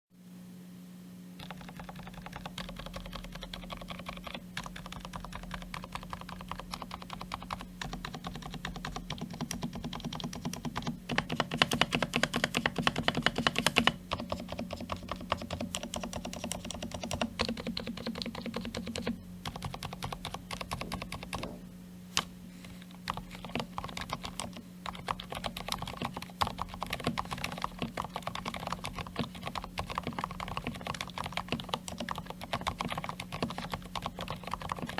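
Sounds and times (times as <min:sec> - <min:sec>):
typing on mechanical keyboard: 0:01.4 - 0:21.6, 0:23.0 - 0:34.9.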